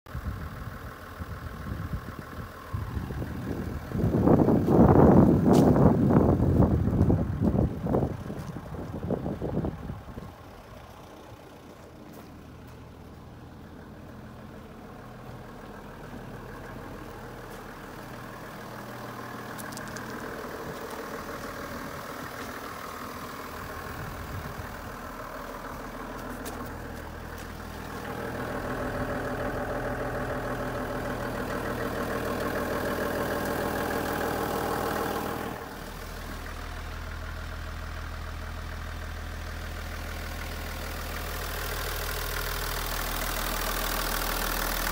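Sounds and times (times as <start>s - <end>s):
diesel engine idling: 0.1s - 44.9s.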